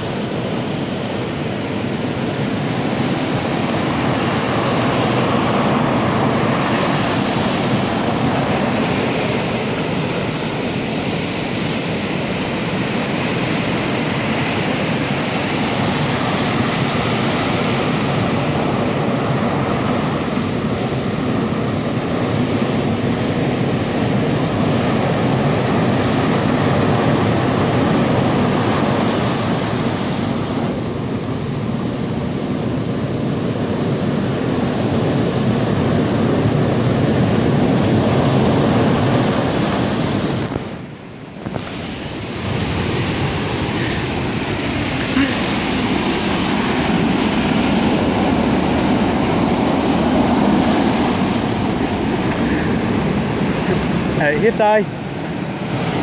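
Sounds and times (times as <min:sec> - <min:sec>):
surf breaking on beach: 0:00.0 - 0:56.0.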